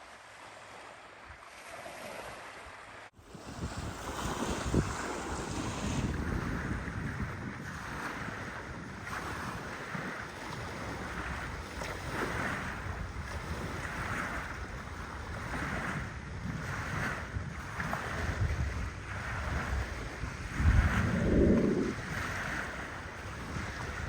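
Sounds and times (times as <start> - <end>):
sea waves washing in: 0.0 - 24.0
wind buffeting microphone: 3.2 - 24.0.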